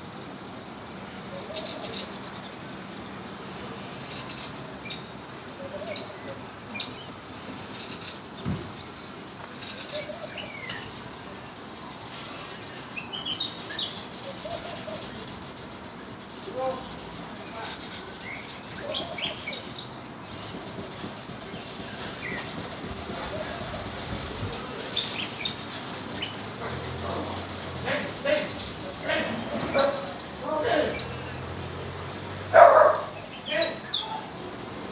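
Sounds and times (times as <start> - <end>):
sanding pad rubbing plastic: 0.0 - 34.9
birds chirping: 0.1 - 34.9.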